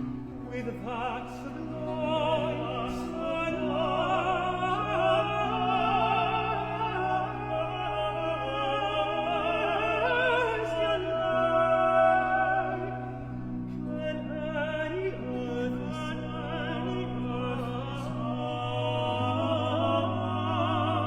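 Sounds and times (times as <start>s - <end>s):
vocal trio singing with vibrato: 0.0s - 21.0s.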